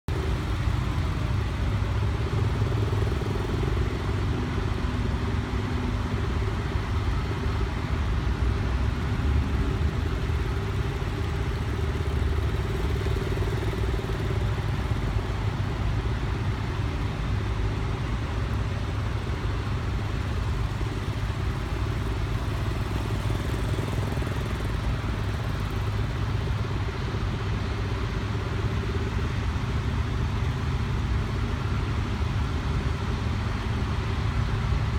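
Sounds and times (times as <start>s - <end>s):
motorcycle engine running steadily: 0.0s - 34.9s.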